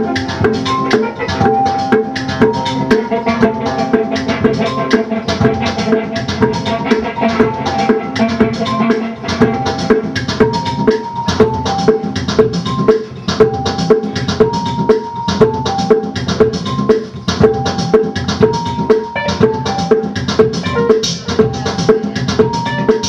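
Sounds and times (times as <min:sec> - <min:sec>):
drum beat: 0:00.0 - 0:23.0.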